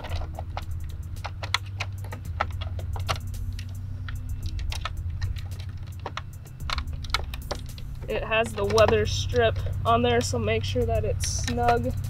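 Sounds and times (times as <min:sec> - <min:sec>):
plastic clicks and rattles: 0:00.0 - 0:09.8
steady low hum: 0:00.0 - 0:12.0.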